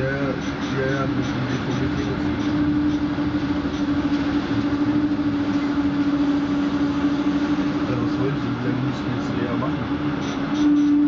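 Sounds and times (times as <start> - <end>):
constant hum: 0.0 - 11.0
train wheels rumbling on track: 0.0 - 11.0.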